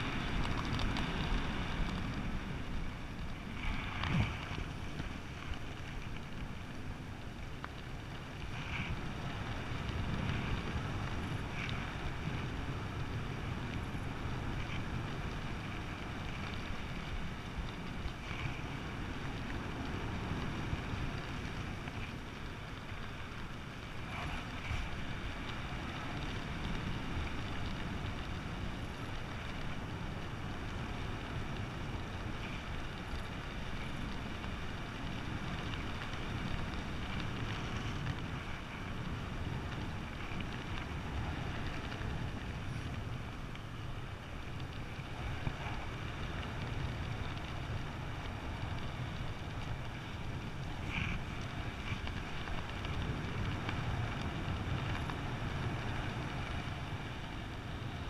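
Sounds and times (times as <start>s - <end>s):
faint ticks: 0.0s - 58.0s.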